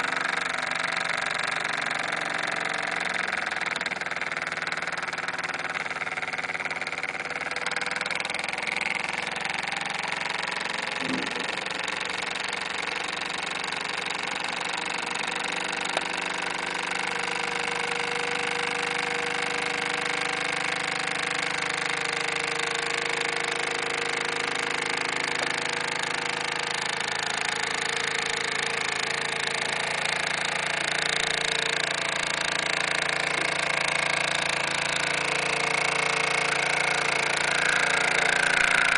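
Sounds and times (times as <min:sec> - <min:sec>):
steam engine running: 0:00.0 - 0:38.9.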